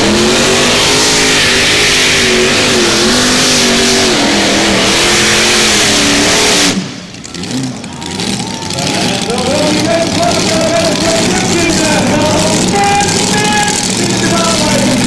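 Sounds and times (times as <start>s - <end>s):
tractor engine at high revs: 0.0s - 15.0s.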